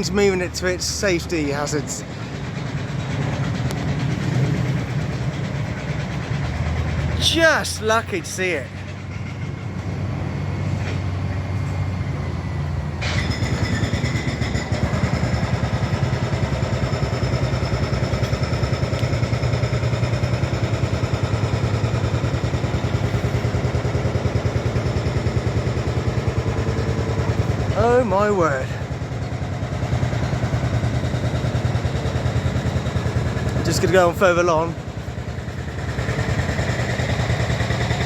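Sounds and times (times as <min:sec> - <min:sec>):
diesel engine of heavy machinery: 0:00.0 - 0:38.0.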